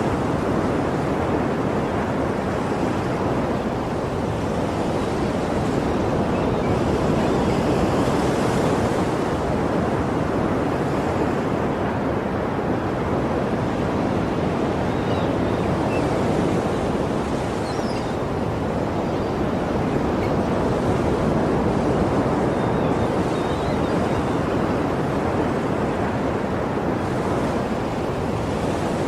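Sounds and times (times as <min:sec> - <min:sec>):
sea waves washing on shore: 0:00.0 - 0:29.0.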